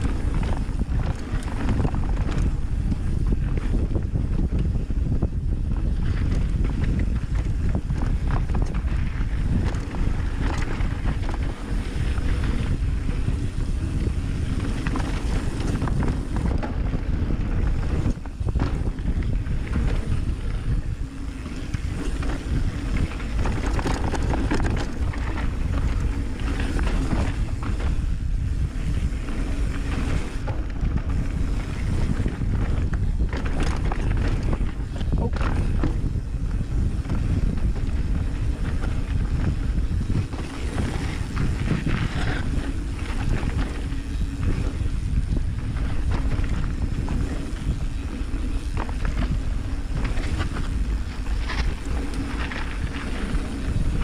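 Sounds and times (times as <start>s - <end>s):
bike clattering and rattling: 0.0s - 54.0s
tyres rumbling over trail: 0.0s - 54.0s
wind buffeting microphone: 0.0s - 54.0s.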